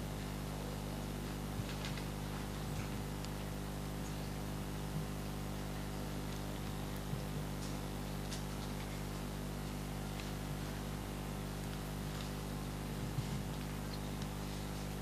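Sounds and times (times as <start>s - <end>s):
electrical hum and hiss: 0.0s - 15.0s
faint ticks and rustles: 0.1s - 15.0s.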